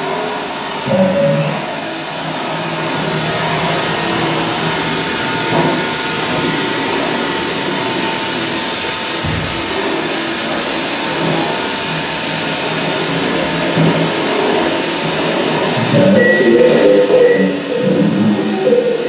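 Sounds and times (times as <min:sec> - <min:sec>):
electronic noise music: 0:00.8 - 0:19.0.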